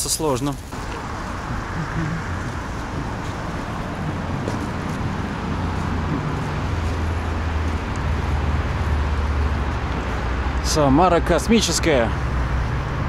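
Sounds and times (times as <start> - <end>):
cars passing: 0.0 - 13.0
vehicle engine drone: 0.7 - 13.0.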